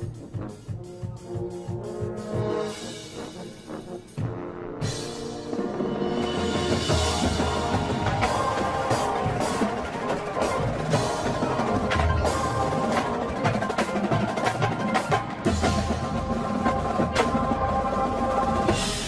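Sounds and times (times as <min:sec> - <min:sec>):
marching drumline: 0:00.0 - 0:19.0.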